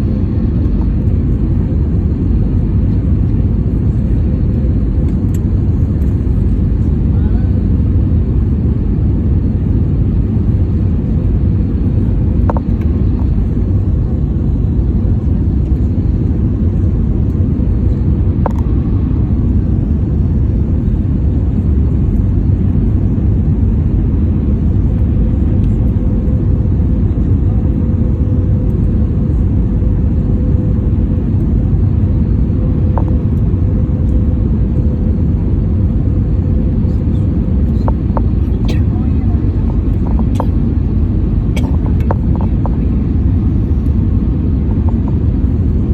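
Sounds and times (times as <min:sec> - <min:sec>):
airliner cabin rumble: 0:00.0 - 0:45.9
faint steady hum: 0:00.0 - 0:45.9.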